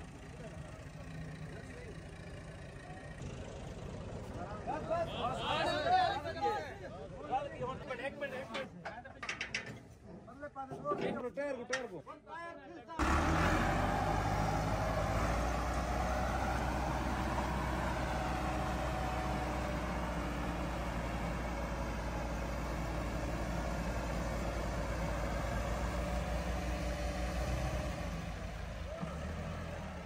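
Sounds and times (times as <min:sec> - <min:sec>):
tractor diesel engine running: 0:00.0 - 0:07.5, 0:13.0 - 0:30.0.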